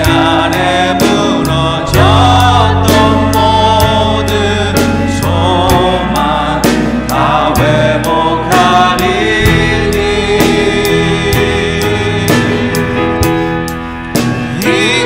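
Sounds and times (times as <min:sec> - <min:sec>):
man singing into microphone: 0:00.0 - 0:12.9, 0:14.5 - 0:15.0
band accompaniment with steady beat: 0:00.0 - 0:15.0.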